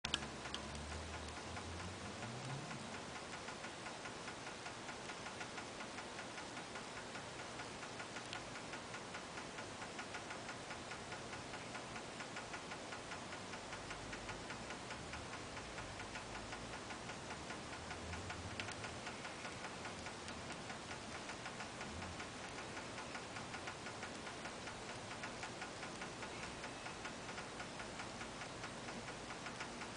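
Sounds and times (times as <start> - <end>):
frogs clicking: 0.1 - 29.9.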